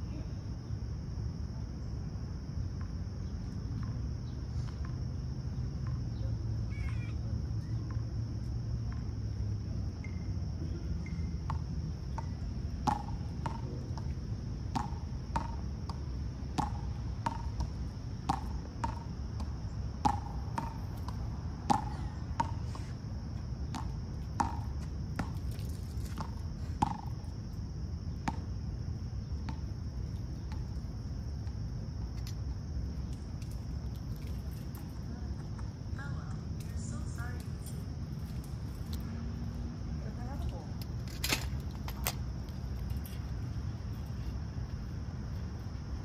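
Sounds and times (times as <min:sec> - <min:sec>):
high-pitched insect chorus: 0:00.0 - 0:46.0.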